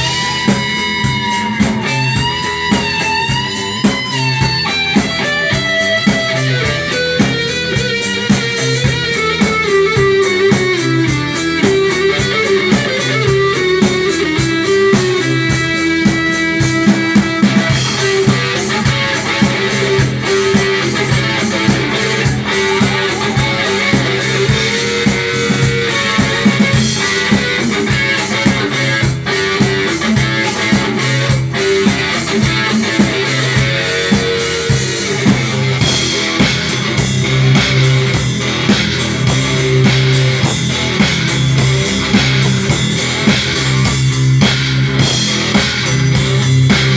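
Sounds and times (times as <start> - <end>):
drum kit steady beat: 0.0 - 46.9
electric guitar: 0.0 - 46.9.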